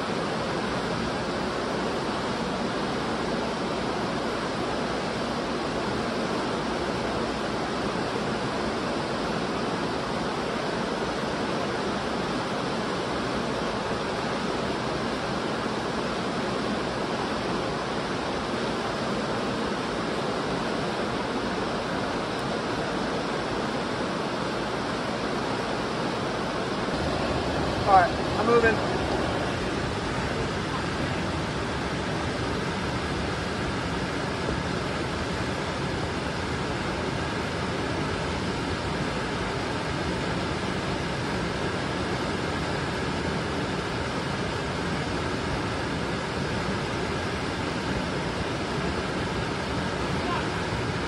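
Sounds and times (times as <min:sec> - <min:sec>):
river rushing: 0:00.0 - 0:51.0.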